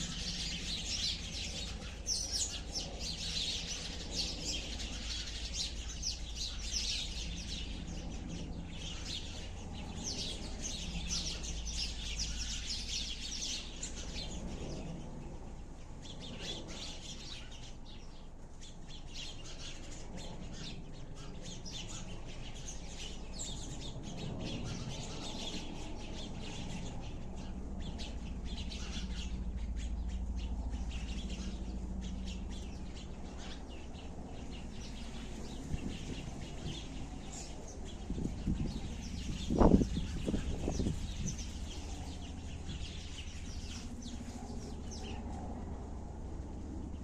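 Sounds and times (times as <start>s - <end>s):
sparrows chirping: 0.0s - 47.0s
steady low hum: 0.0s - 47.0s.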